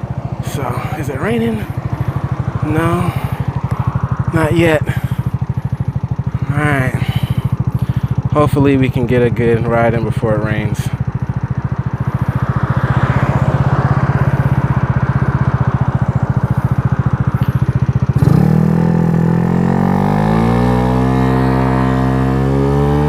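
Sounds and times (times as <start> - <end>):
scooter engine idling and revving: 0.0 - 23.0.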